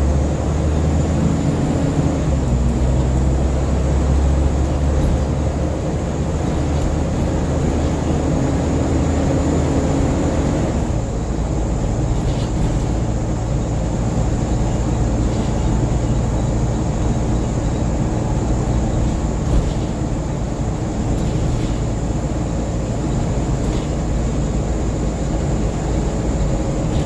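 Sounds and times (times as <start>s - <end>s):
bus engine running: 0.0s - 27.0s
road noise: 0.0s - 27.0s.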